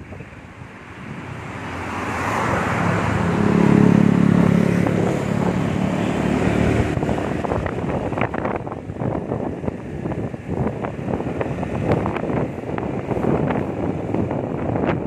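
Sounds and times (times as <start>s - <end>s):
motor scooter engine humming: 0.0s - 15.0s
road traffic noise: 0.0s - 15.0s.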